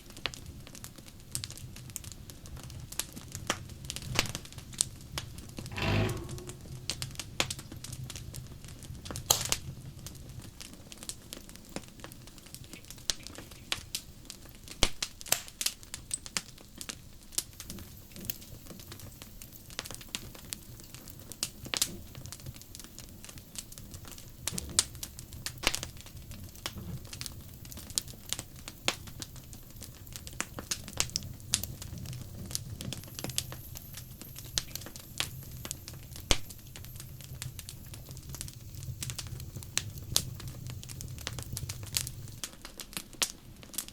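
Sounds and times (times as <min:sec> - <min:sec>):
wood fire crackling: 0:00.1 - 0:43.9.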